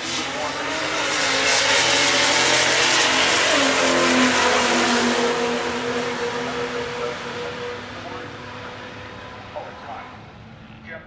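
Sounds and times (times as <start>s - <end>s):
race car engine at full throttle: 0.0s - 11.0s.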